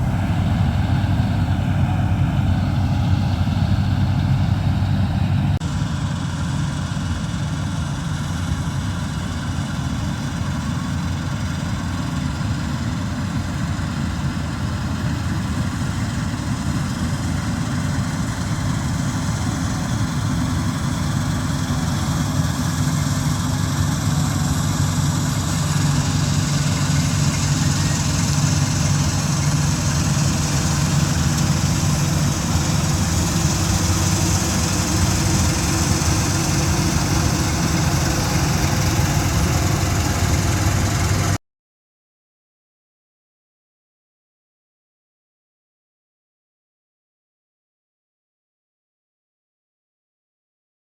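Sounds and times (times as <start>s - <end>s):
diesel engine droning: 0.0s - 41.4s.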